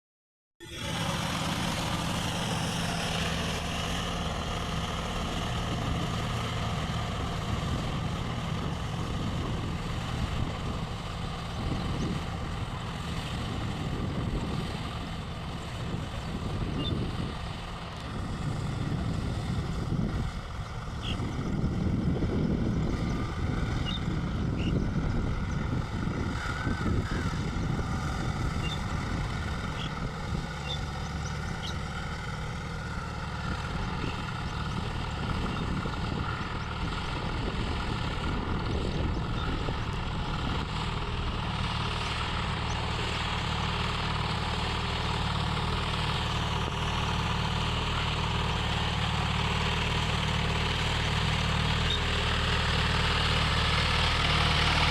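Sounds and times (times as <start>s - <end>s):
tractor diesel engine under load: 0.6s - 54.9s.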